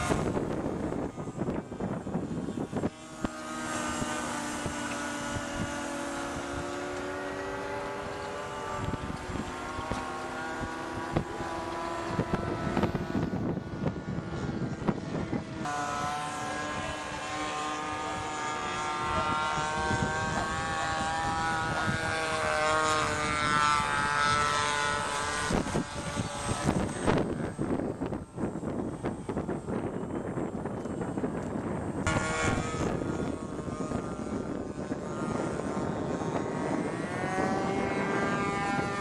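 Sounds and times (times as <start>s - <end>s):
model plane motor droning: 0.0s - 39.0s
wind gusting on microphone: 0.0s - 39.0s.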